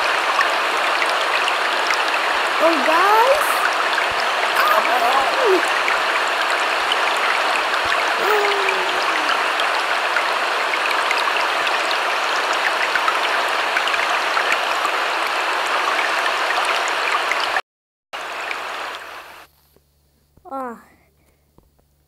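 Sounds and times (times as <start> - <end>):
rushing water: 0.0 - 17.6, 18.2 - 19.5.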